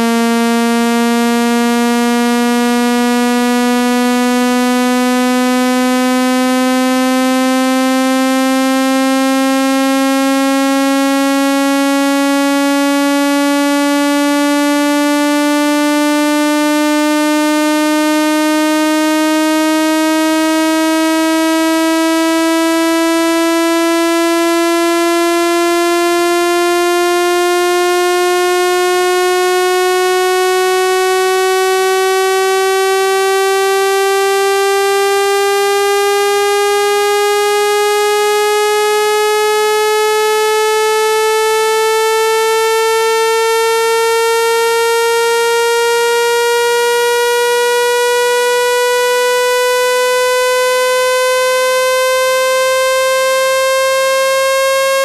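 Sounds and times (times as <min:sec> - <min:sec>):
buzzy tone rising in pitch: 0:00.0 - 0:55.0.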